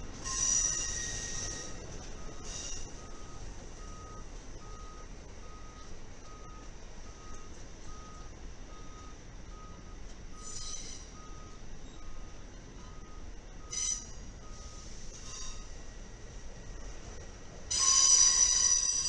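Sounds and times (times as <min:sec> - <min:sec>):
train cars rolling past: 0:00.0 - 0:19.0
electronic warning beep: 0:00.2 - 0:16.3, 0:17.7 - 0:19.0.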